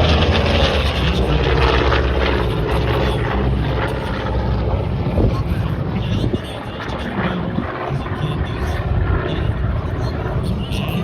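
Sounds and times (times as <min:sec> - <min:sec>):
propeller plane engines drone: 0:00.0 - 0:11.0.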